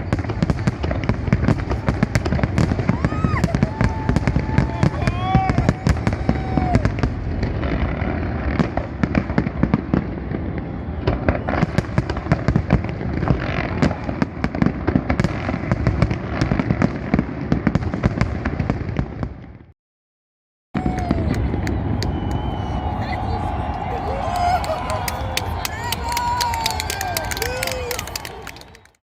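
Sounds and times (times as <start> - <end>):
fireworks bangs and crackling: 0.0 - 19.7, 20.8 - 28.9.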